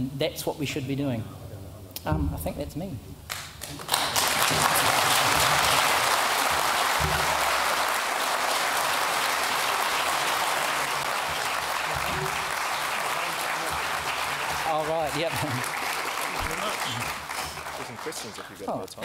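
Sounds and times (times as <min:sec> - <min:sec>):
audience applauding: 0:03.3 - 0:18.7.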